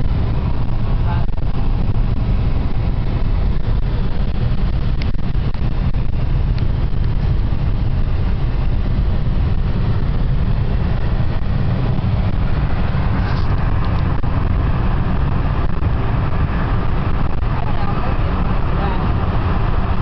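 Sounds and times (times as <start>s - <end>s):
tyre and engine rumble: 0.0s - 20.0s
wind noise: 0.0s - 20.0s.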